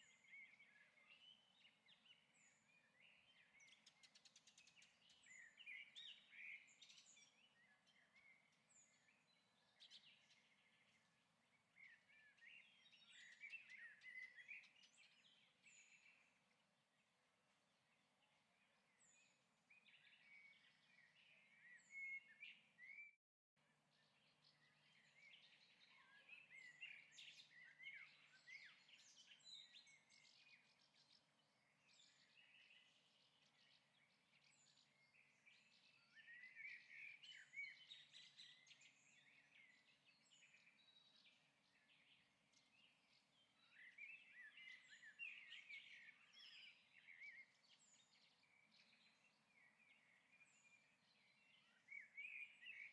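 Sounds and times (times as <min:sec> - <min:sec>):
faint birds chirping: 0:00.0 - 0:52.9.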